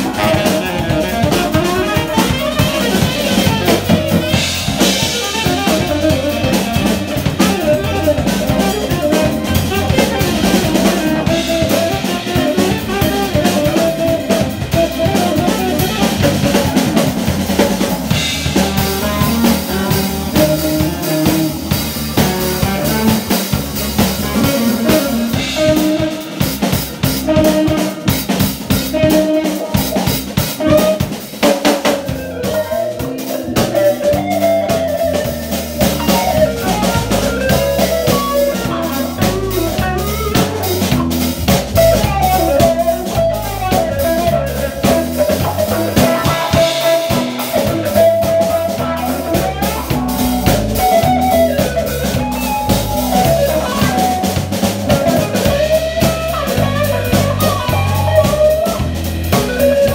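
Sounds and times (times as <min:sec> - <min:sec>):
drum kit beat: 0:00.0 - 0:59.9
electric bass line: 0:00.0 - 0:59.9
electric guitar: 0:00.0 - 0:59.9
lead melody: 0:00.0 - 0:59.9.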